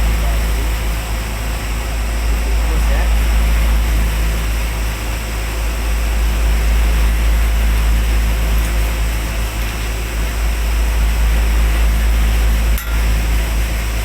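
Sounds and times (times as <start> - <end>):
machinery deep low hum: 0.0 - 14.0.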